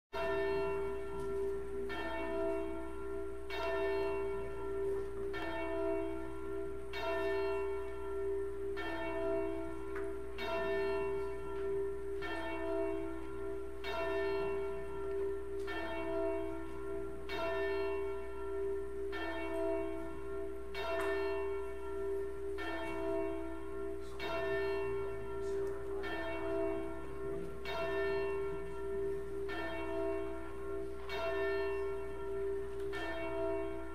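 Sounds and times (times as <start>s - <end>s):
church bell tolling: 0.1s - 33.9s.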